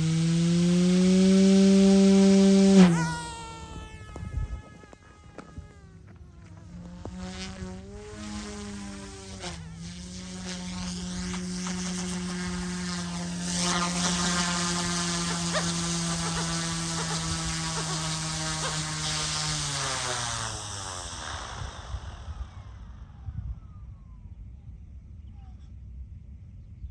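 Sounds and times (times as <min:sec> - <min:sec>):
toy helicopter rotors buzzing: 0:00.0 - 0:23.8.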